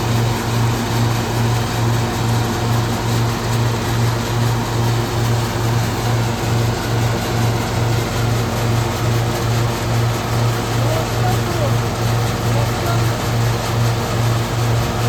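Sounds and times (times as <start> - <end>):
threshing machine pulsing hum: 0.0 - 15.0.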